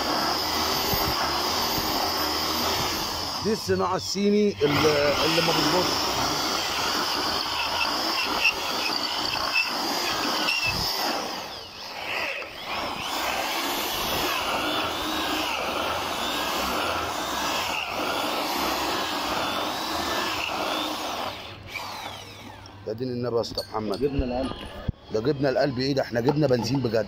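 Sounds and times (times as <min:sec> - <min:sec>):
electric drill boring into metal: 0:00.0 - 0:22.9.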